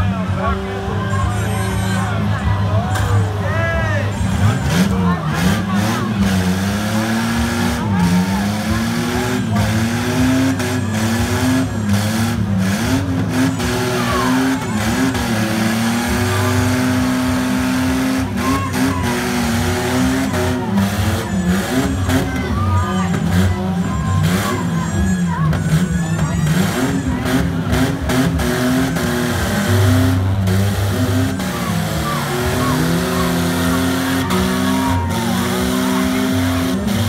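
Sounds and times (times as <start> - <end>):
engines revving hard: 0.0 - 37.0.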